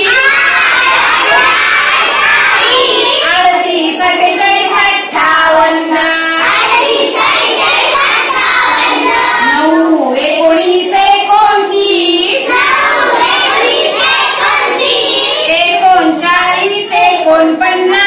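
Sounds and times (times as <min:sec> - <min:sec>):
girl singing a counting chant: 0:00.0 - 0:18.0.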